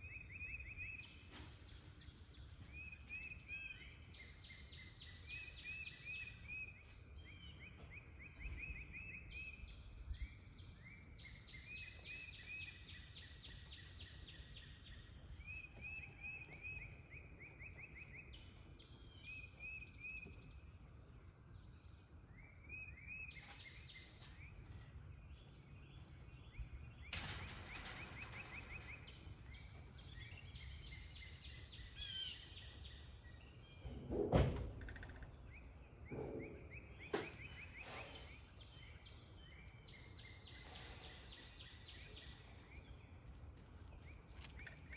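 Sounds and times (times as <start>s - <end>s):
birds singing trills: 0.0s - 20.8s, 21.4s - 44.9s.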